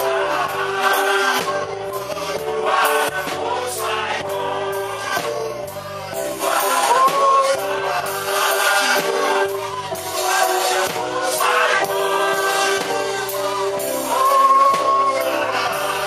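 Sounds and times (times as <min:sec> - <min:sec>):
band accompaniment: 0:00.0 - 0:16.0
voices singing gospel song: 0:00.0 - 0:16.0.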